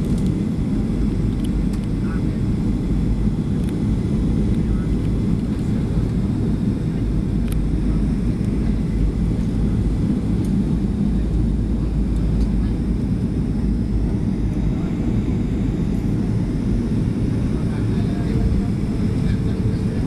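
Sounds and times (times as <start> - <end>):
jet engine drone: 0.0 - 20.0.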